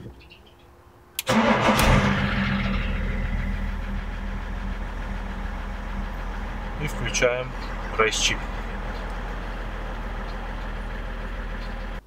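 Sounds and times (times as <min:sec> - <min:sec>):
diesel engine cranking and idling: 0:01.2 - 0:12.0.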